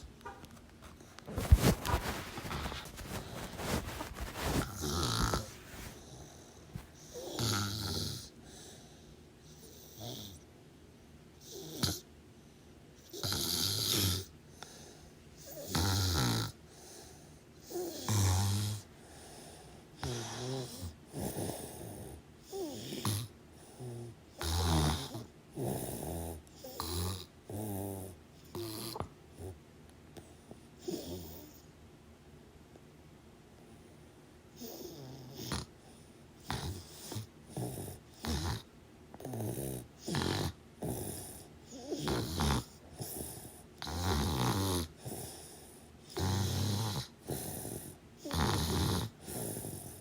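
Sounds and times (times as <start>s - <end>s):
snoring: 1.4s - 8.8s, 9.5s - 10.4s, 11.4s - 12.1s, 13.0s - 29.6s, 30.8s - 31.7s, 34.6s - 50.0s.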